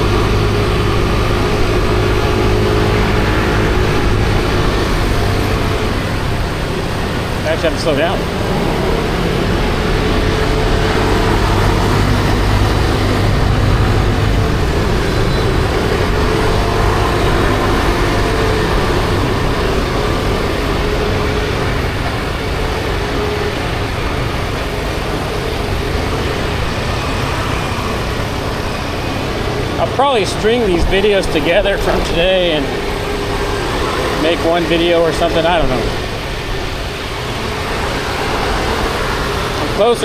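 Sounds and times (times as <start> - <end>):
scooter engine running: 0.0 - 40.0
surrounding traffic: 0.0 - 40.0
wind and road noise: 0.0 - 40.0.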